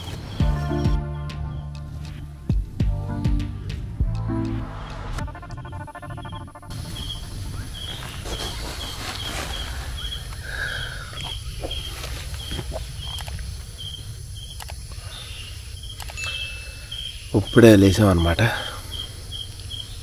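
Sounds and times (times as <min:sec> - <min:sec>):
insect chirping: 0:00.0 - 0:02.8, 0:05.3 - 0:20.0.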